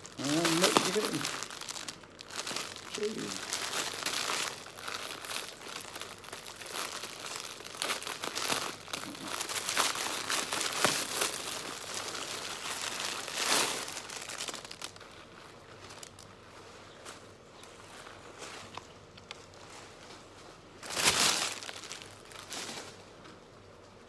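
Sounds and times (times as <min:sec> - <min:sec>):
packaging crinkling and tearing: 0:00.0 - 0:23.1.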